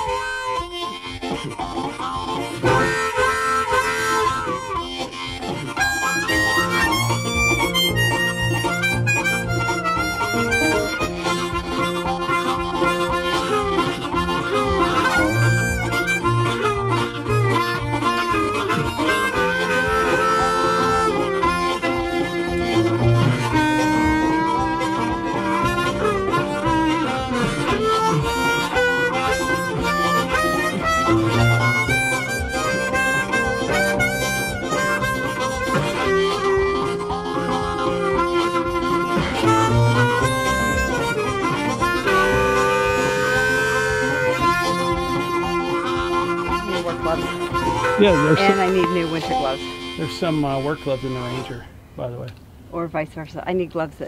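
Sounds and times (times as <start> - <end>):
blues harmonica: 0.0 - 52.8
low accompanying notes: 0.0 - 54.0.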